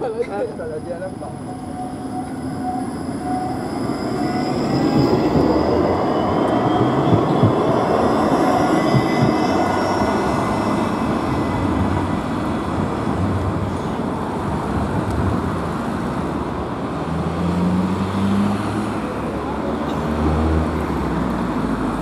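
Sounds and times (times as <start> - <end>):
street traffic noise: 0.0 - 22.0
tram passing with high whine: 0.0 - 22.0.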